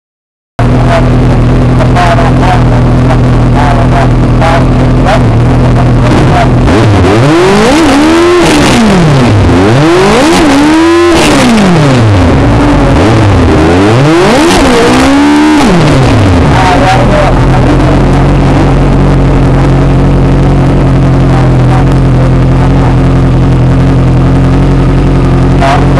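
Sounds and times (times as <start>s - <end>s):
race car engine revving: 0.6s - 25.9s.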